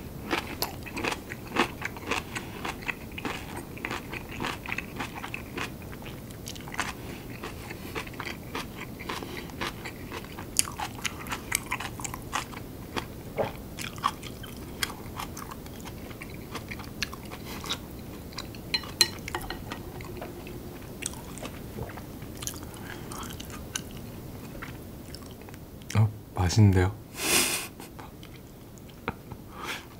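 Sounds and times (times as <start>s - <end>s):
man chewing food: 0.0s - 26.0s, 27.9s - 29.9s.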